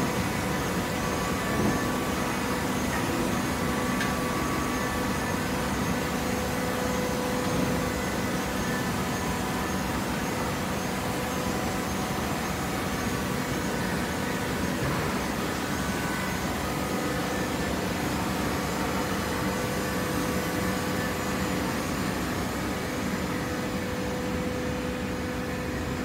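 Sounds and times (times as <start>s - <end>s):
hydraulic power unit humming: 0.0s - 26.0s.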